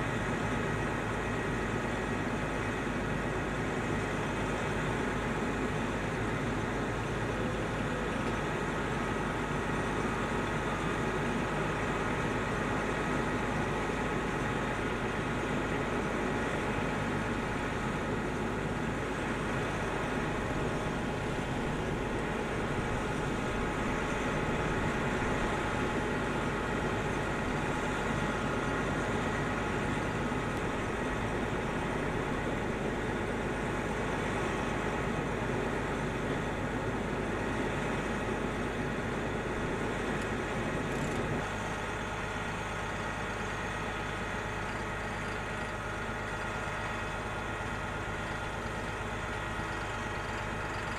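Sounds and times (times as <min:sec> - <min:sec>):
thin steady whine: 0:00.0 - 0:50.9.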